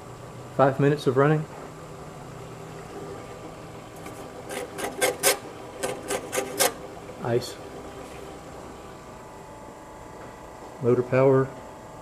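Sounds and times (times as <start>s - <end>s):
refrigerator compressor hum: 0.0s - 12.0s.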